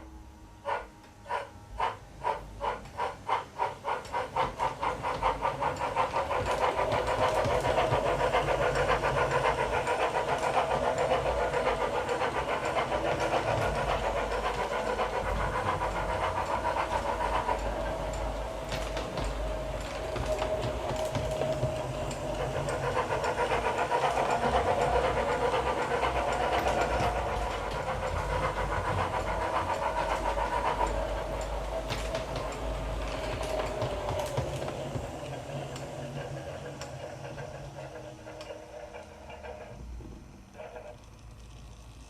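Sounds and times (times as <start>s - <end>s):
model steam locomotive chuffs: 0.0s - 42.0s.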